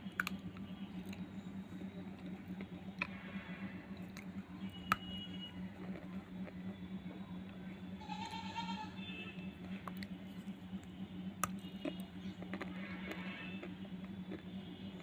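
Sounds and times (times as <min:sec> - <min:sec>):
squishy chewing sounds: 0:00.0 - 0:08.4, 0:09.4 - 0:15.0
steady low hum: 0:00.0 - 0:15.0.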